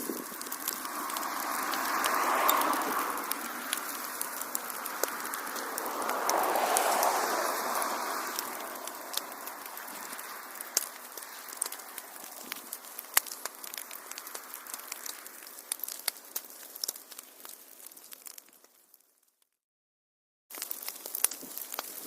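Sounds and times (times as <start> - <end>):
wood fire crackling: 0.0 - 19.4, 20.5 - 22.0.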